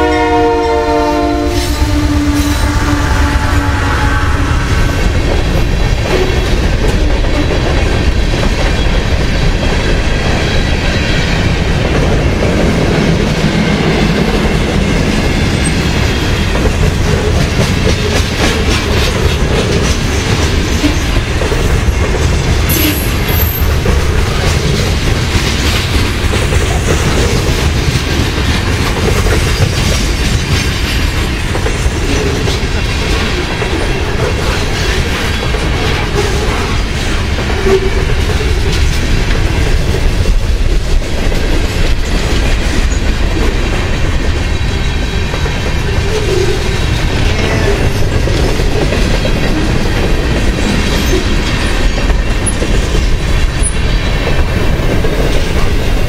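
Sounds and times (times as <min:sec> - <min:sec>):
train wheels clacking over rail joints: 0:04.4 - 0:56.0.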